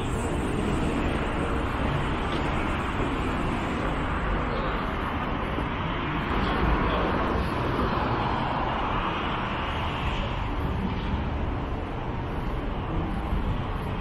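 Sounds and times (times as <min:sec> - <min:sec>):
car and bus engines running: 0:00.0 - 0:14.0
road traffic noise: 0:00.0 - 0:14.0.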